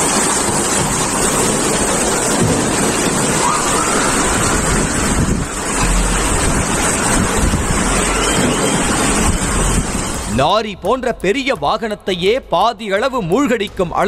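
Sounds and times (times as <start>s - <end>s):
wind buffeting microphone: 0.0s - 12.1s
floodwater rushing: 0.0s - 14.0s.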